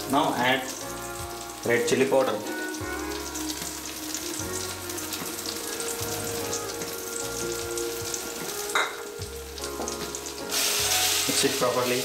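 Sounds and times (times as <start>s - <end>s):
curry sizzling in hot oil: 0.0s - 12.0s.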